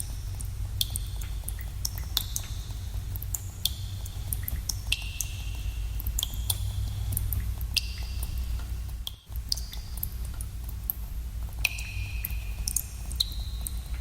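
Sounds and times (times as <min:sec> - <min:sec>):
water drops plinking into water: 0:00.0 - 0:11.0, 0:11.6 - 0:14.0
steady low rumble: 0:00.0 - 0:14.0.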